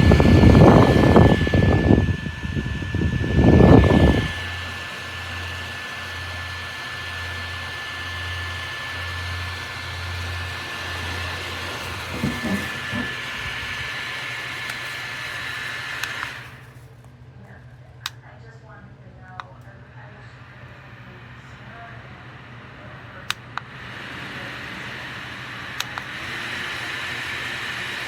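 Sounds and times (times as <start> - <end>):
neck fan whirring: 0.0 - 28.0.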